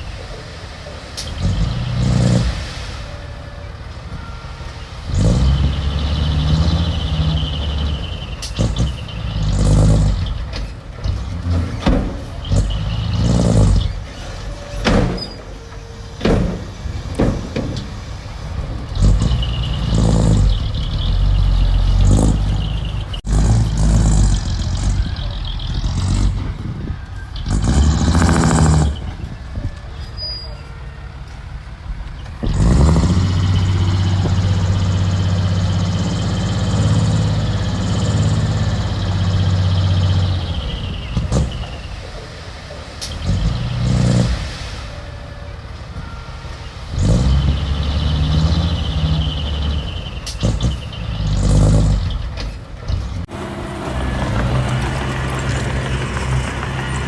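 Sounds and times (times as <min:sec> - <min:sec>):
diesel engines revving: 0:00.0 - 0:57.0.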